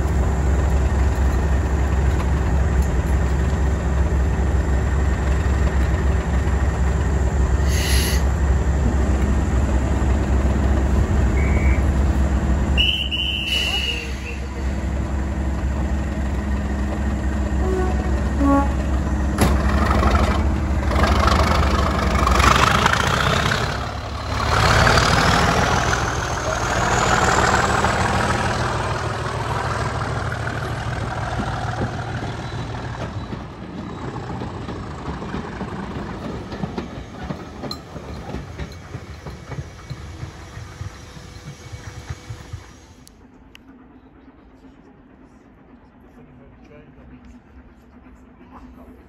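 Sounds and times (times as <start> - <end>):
coaches rattling on track: 0.0 - 7.6, 8.2 - 49.0
diesel locomotive engine: 0.0 - 49.0.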